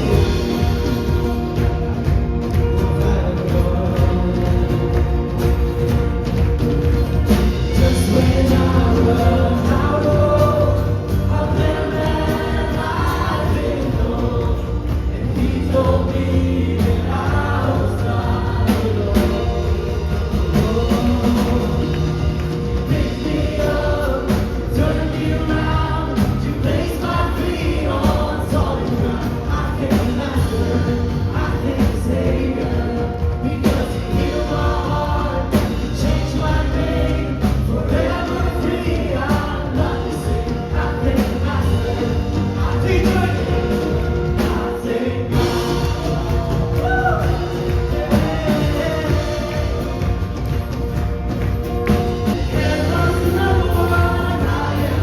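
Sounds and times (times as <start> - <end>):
band with bass and drums: 0.0 - 55.0
congregation singing: 0.0 - 55.0.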